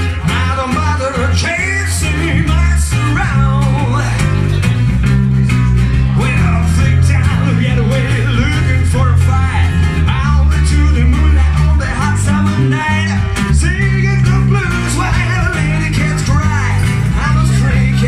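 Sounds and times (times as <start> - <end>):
man singing into a microphone: 0.0 - 4.6, 5.5 - 18.0
electric bass line: 0.0 - 18.0
strummed acoustic guitar: 0.0 - 18.0.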